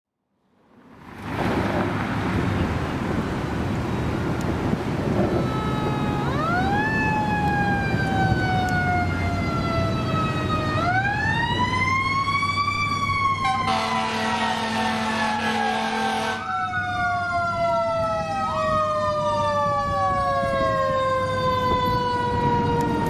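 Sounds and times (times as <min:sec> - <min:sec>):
traffic noise: 0:00.3 - 0:23.0
fire engine siren: 0:02.8 - 0:23.0.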